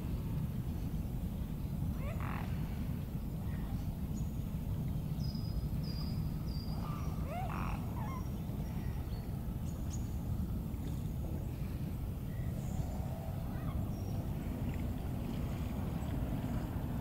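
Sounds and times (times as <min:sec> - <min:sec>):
steady low rumble: 0:00.0 - 0:17.0
water birds calling: 0:00.0 - 0:17.0.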